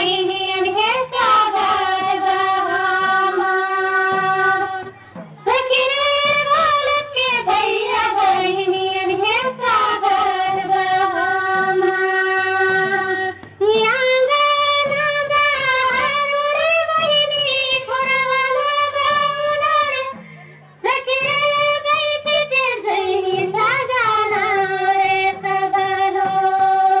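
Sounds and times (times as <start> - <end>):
drum beating steady rhythm: 0.0 - 27.0
women singing in unison: 0.0 - 27.0.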